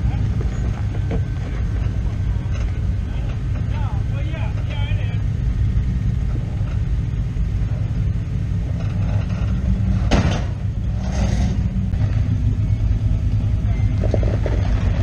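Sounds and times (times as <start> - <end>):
car engine running low: 0.0 - 15.0.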